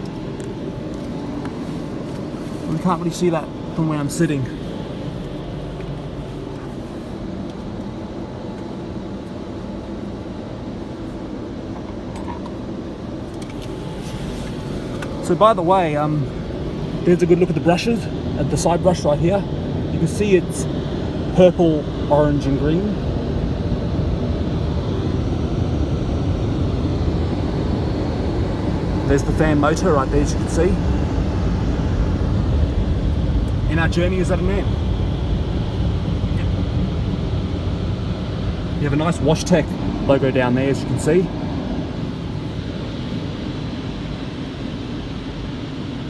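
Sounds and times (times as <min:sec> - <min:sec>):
car-wash blower dryers: 0:00.0 - 0:46.0.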